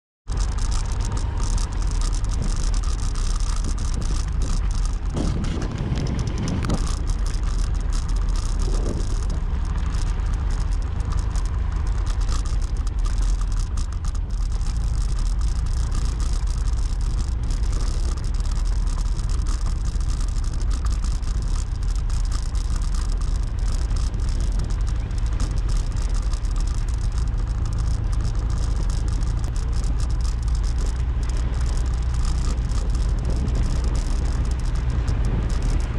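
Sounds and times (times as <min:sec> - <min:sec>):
road engine and wind rumble: 0:00.2 - 0:35.9.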